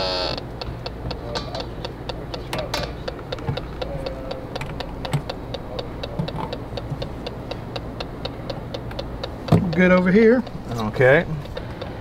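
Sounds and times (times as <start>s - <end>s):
gas leak detector ticking: 0.0s - 12.0s.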